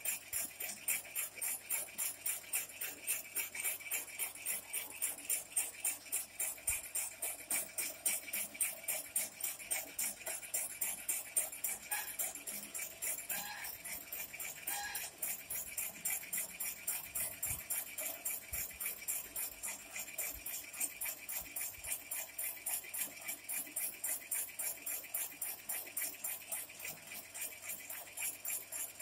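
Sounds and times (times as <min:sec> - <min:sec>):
slicing machine metallic clatter: 0:00.0 - 0:29.0.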